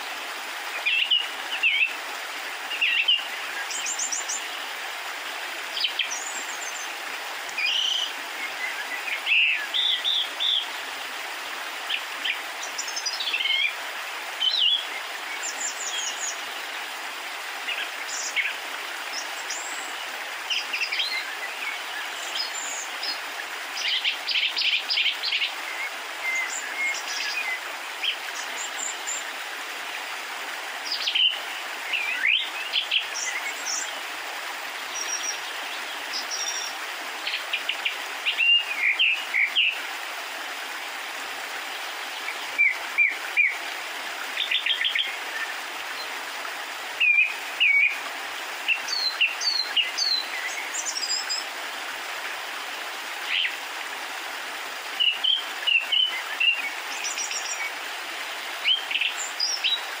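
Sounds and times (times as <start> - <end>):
birds chirping: 0.0 - 60.0
steady background hiss: 0.0 - 60.0.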